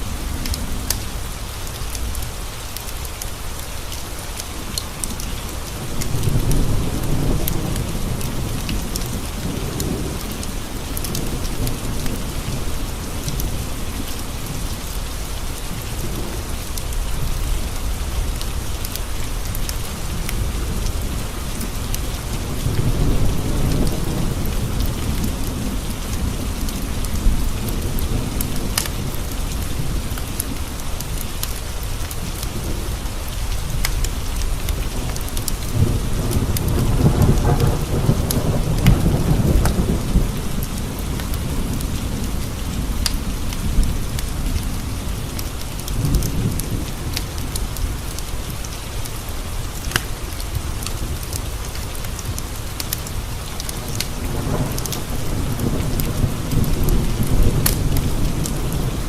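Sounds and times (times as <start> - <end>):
rain pattering on window glass: 0.0 - 59.0
low rolling thunder: 5.5 - 59.0.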